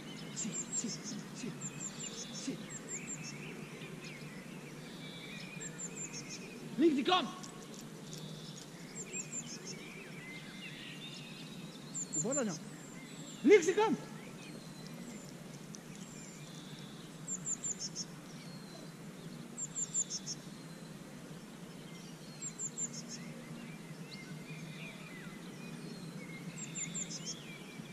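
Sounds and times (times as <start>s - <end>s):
low outdoor background noise: 0.0s - 27.9s
small bird singing: 0.0s - 27.9s.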